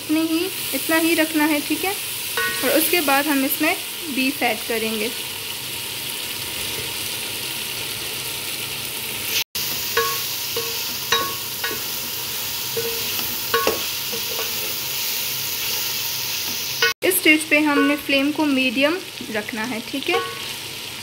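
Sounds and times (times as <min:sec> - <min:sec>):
food sizzling in a pot: 0:00.0 - 0:21.0.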